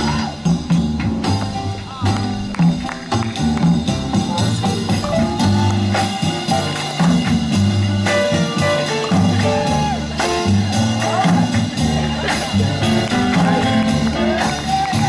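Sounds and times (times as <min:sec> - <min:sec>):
music with drums and bass: 0:00.0 - 0:15.0.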